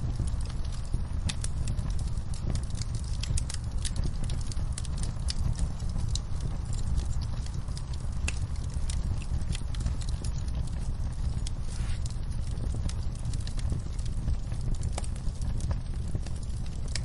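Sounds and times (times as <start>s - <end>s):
burning wood crackling and popping: 0.0s - 17.0s
fire low rumble of flame: 0.0s - 17.0s.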